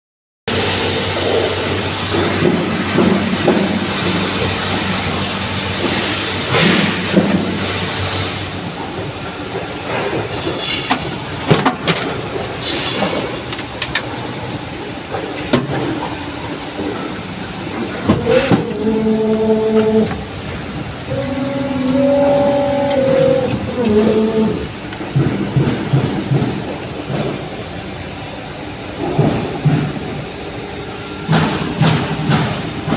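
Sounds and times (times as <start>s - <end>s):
machinery clatter: 0.5s - 32.9s
machinery hum: 0.5s - 32.9s.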